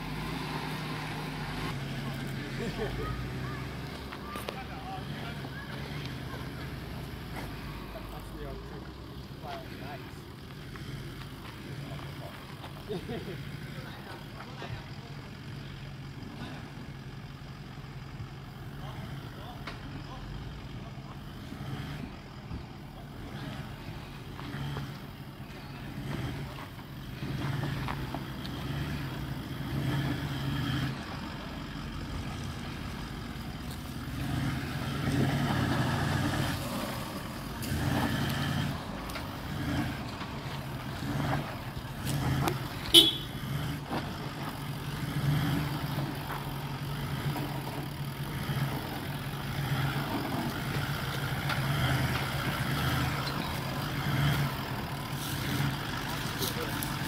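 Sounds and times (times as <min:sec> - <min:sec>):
engine running at low revs: 0:00.0 - 0:57.0.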